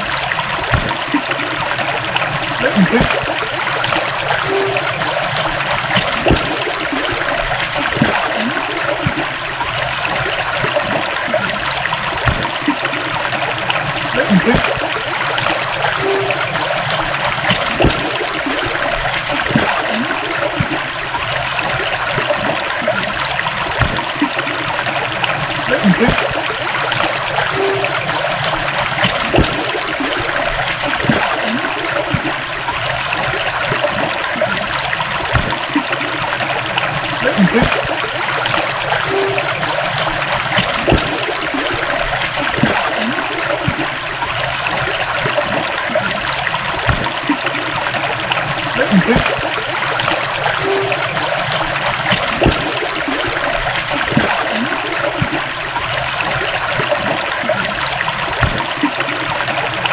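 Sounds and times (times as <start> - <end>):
stream water running over stones: 0.0 - 59.9.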